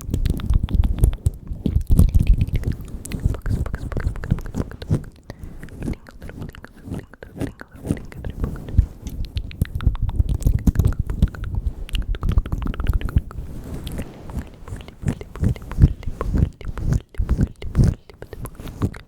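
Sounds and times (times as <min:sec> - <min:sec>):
wet mouth clicks and smacks: 0:00.0 - 0:19.0.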